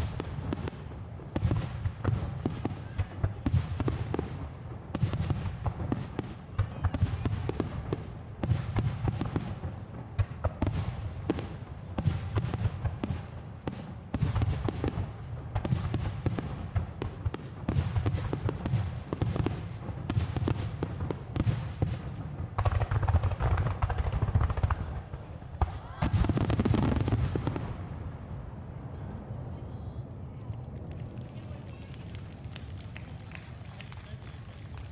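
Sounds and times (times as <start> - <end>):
fireworks booming: 0.0 - 29.3.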